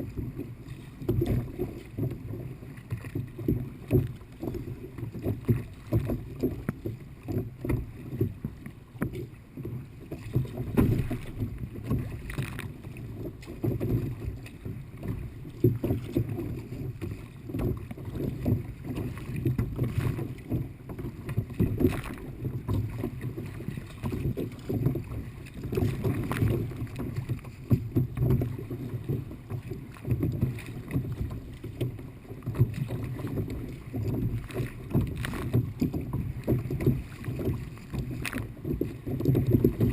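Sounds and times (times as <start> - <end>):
paddle splashes: 0.0 - 39.9
water sloshing against kayak: 0.0 - 39.9.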